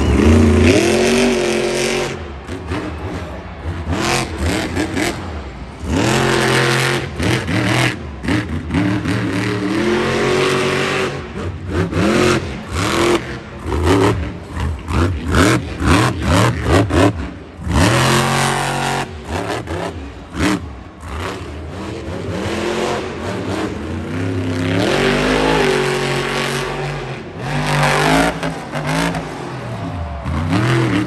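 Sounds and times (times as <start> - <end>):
truck engine revving hard: 0.0 - 31.0.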